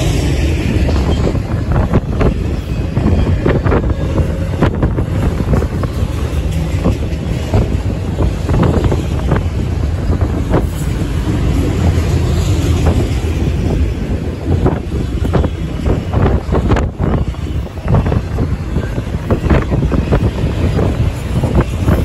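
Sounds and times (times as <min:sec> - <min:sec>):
train wheels rumbling on rails: 0:00.0 - 0:22.0
wind buffeting microphone: 0:00.0 - 0:22.0.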